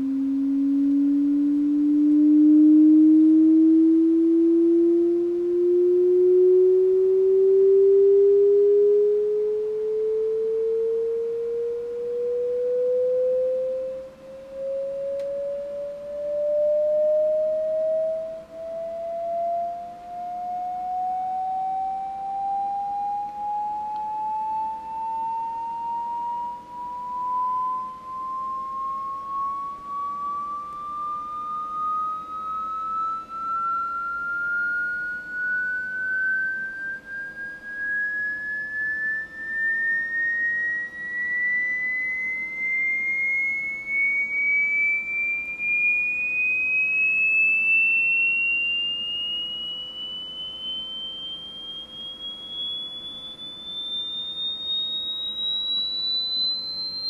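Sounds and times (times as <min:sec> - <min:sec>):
rising sine wave test tone: 0:00.0 - 0:57.0.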